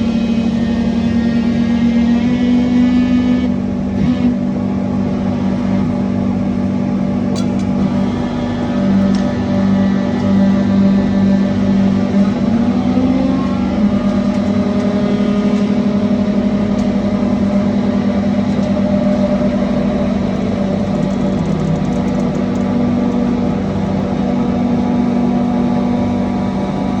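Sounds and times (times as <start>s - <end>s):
hydraulic press motor humming: 0.0s - 27.0s.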